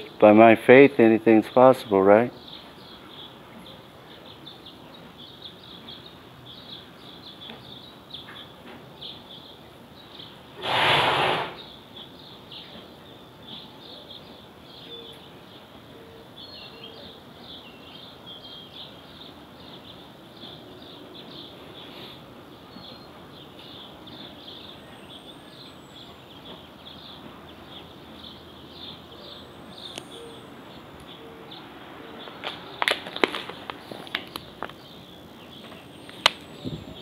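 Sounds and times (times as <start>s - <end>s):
birds chirping: 0.0s - 37.0s
outdoor background noise: 0.0s - 37.0s.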